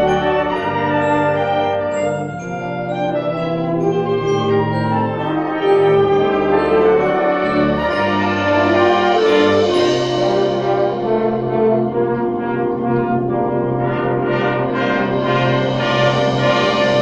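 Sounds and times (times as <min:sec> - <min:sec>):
wind band playing chords: 0:00.0 - 0:17.0.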